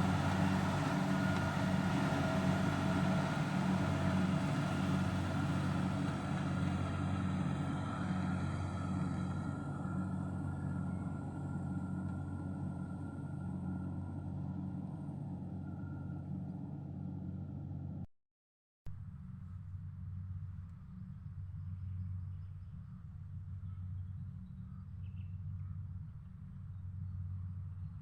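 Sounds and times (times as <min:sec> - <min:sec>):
engine running steadily: 0:00.0 - 0:18.1, 0:18.9 - 0:28.0.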